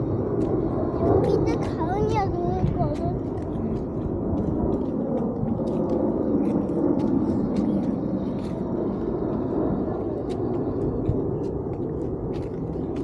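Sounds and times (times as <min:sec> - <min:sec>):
low outdoor rumbling: 0:00.0 - 0:13.0.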